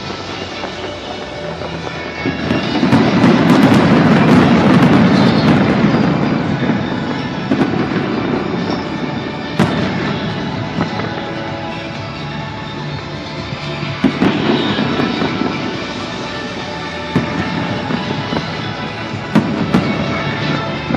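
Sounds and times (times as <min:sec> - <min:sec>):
fireworks bursts and crackles: 0:00.0 - 0:20.9
music playing: 0:00.0 - 0:20.9.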